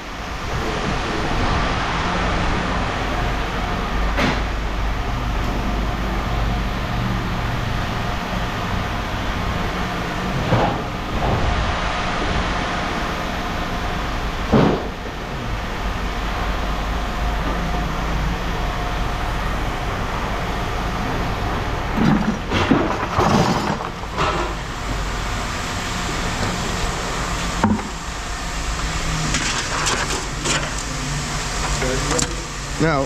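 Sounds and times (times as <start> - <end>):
engine rumble: 0.0 - 33.0.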